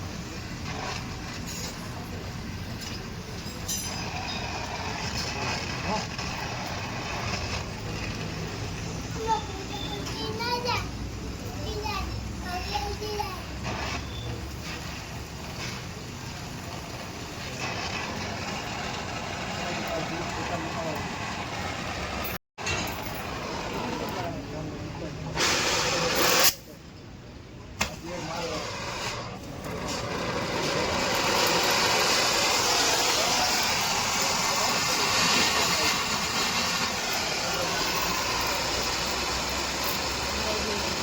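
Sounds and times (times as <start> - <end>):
motor vehicle rushing hum: 4.0 - 26.5, 28.1 - 41.0.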